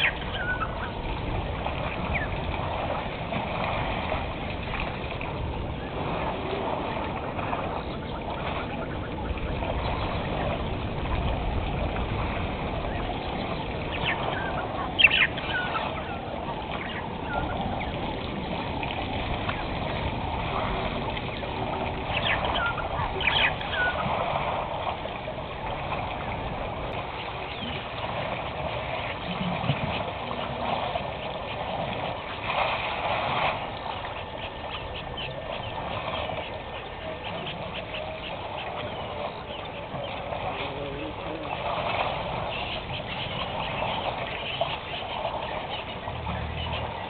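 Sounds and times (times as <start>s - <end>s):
elephants wading and drinking: 0.0s - 47.0s
water birds calling: 0.0s - 47.0s
water splashing: 0.0s - 47.0s.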